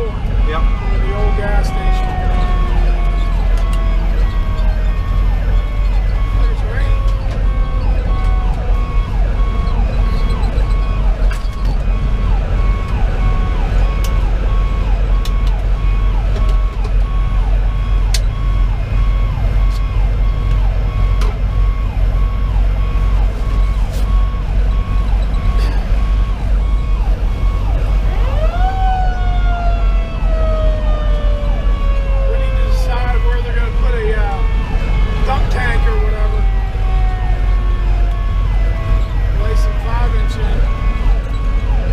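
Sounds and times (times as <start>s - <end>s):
diesel engine and road noise: 0.0s - 41.9s
electronic siren sweeps: 0.0s - 41.9s
mechanical siren wailing: 0.0s - 41.9s.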